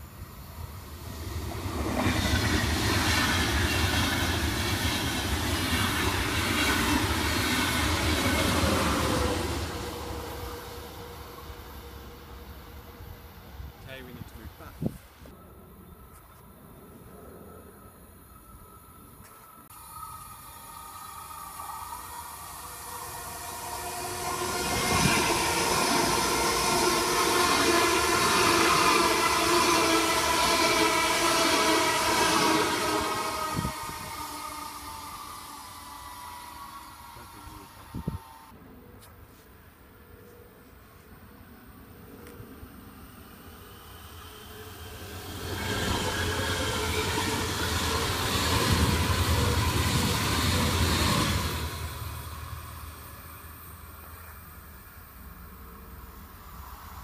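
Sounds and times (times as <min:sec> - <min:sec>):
train wheels rumbling on rails: 0:00.0 - 0:15.0, 0:20.1 - 0:38.5, 0:43.4 - 0:57.0.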